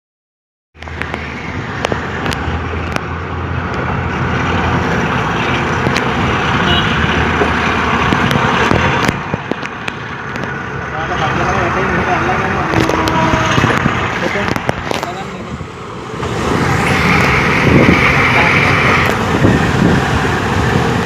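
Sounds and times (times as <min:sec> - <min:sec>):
rolling rail noise with clacks: 0:00.8 - 0:21.0
train engine rumble: 0:00.8 - 0:21.0.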